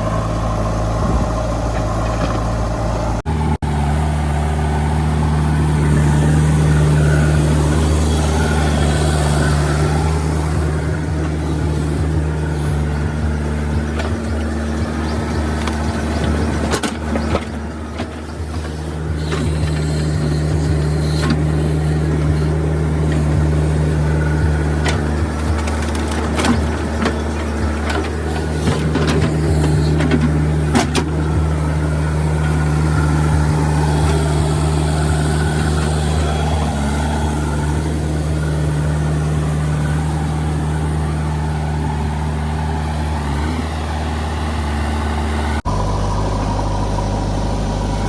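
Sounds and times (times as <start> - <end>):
heavy diesel engine humming: 0.0 - 48.0.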